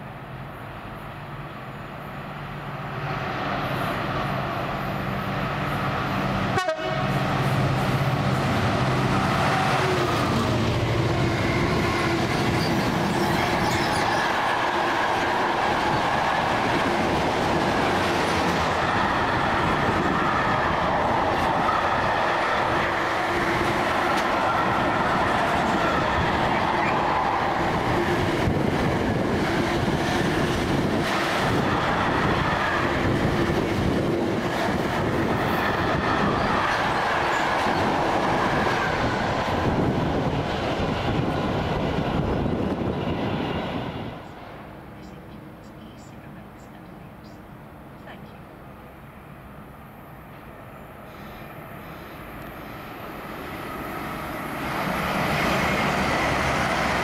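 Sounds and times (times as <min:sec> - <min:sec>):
train passing at speed: 0:00.0 - 0:57.0.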